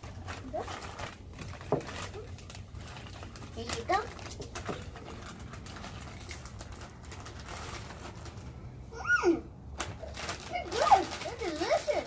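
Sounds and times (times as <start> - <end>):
chip bag crinkling: 0.0 - 8.6, 9.8 - 12.0.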